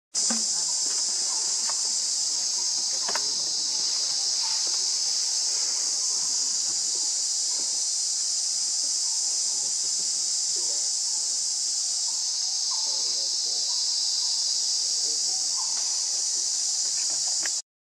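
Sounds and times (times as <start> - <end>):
insect chorus drone: 0.2 - 17.6.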